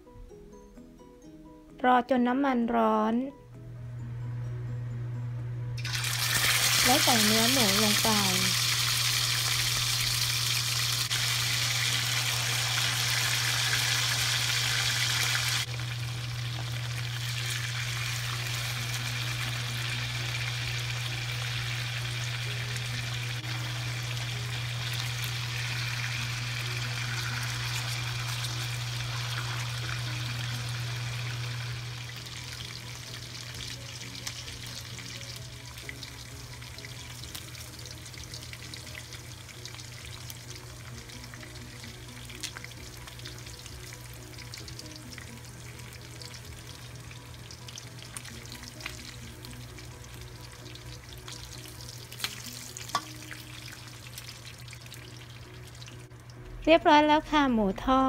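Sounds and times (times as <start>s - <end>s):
quiet background music: 0.0s - 58.0s
meat sizzling in hot oil: 5.8s - 56.1s.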